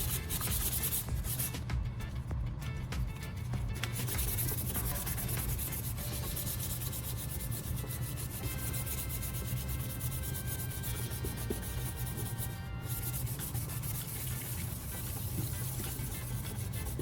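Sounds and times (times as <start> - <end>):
sandpaper rubbing on plastic: 0.0 - 2.2, 3.2 - 17.0.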